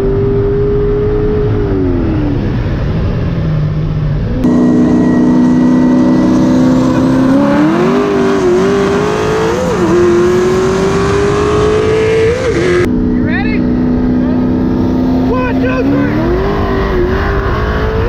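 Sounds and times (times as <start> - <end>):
car engine accelerating: 0.0 - 18.0
wind and road noise: 0.0 - 18.0.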